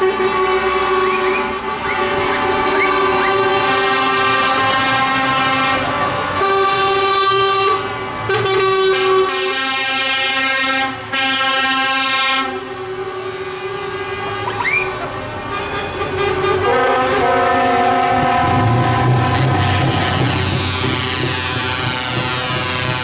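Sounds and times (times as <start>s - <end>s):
truck air horn blasts: 0.0s - 23.0s.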